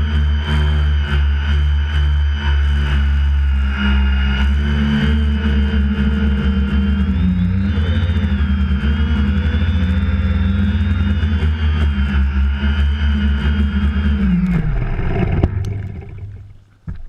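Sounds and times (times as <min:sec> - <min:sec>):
small engine running at high speed: 0:00.0 - 0:16.4.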